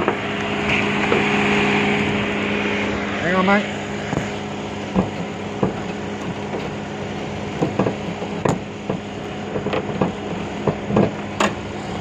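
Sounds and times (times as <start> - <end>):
car running hum: 0.0 - 12.0.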